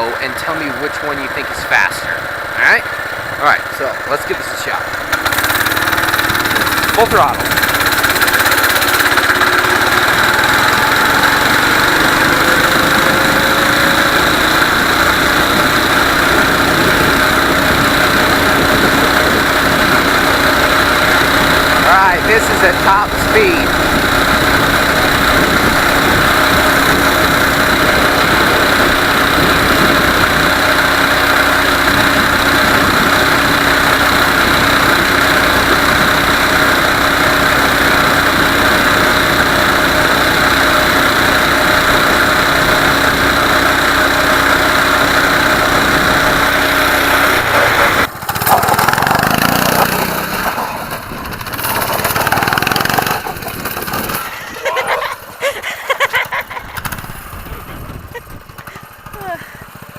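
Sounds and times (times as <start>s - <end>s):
mini bike engine running: 0.0s - 59.9s.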